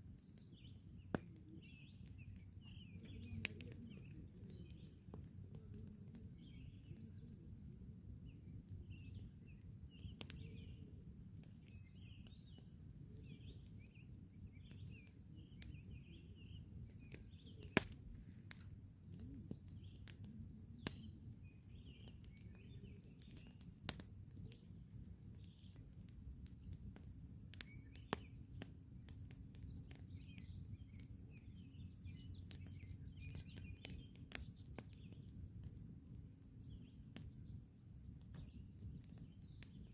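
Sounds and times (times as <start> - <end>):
campfire crackling: 0.0 - 39.9
low steady rumble: 0.0 - 39.9
small birds chirping: 0.0 - 39.9.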